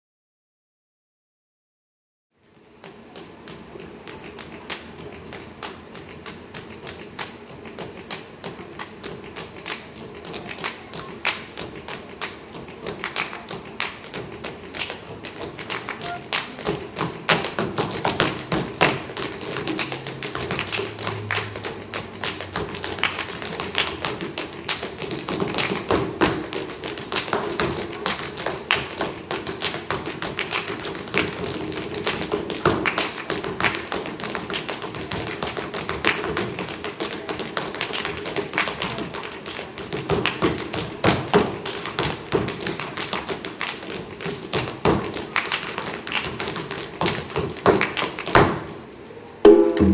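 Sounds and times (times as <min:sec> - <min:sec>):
tap shoes striking floor: 0:02.8 - 0:48.6.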